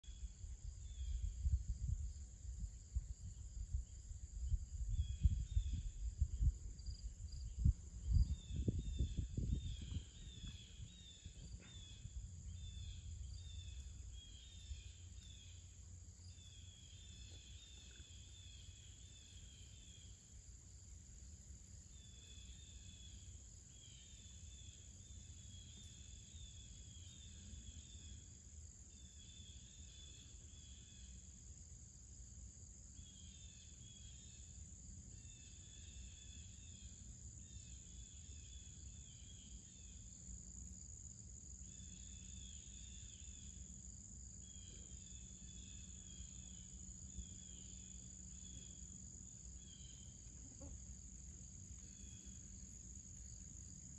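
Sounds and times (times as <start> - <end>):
insects chirping rapidly: 0.0 - 53.9
insects droning: 0.0 - 53.9.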